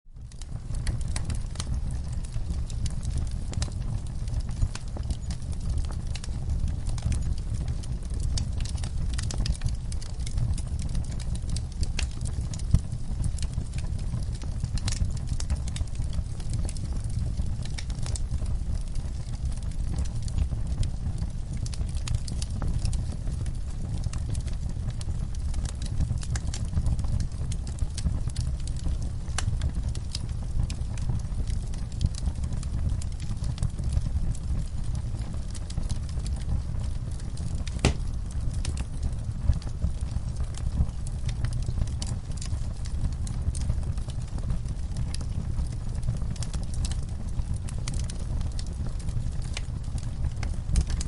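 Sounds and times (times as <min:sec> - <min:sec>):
low rumble of flames: 0:00.1 - 0:51.0
logs crackling and popping: 0:00.2 - 0:51.0.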